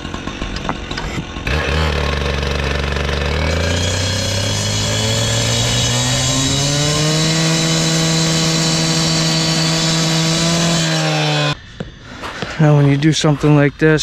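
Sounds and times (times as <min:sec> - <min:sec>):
cut-off saw cutting concrete: 0:00.0 - 0:11.6.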